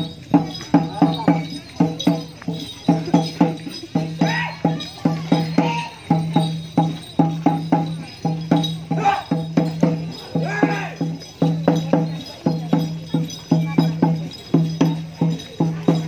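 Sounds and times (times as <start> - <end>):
drum beaten in quick rhythm: 0.0 - 16.0.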